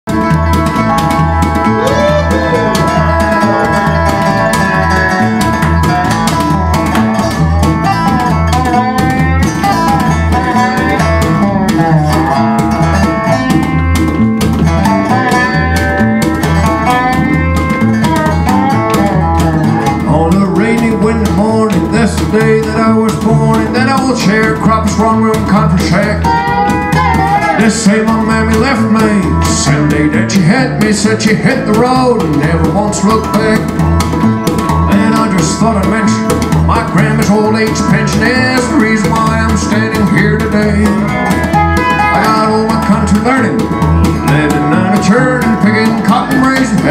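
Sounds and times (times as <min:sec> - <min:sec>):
plucked double bass: 0:00.0 - 0:46.9
slide guitar melody: 0:00.1 - 0:46.9.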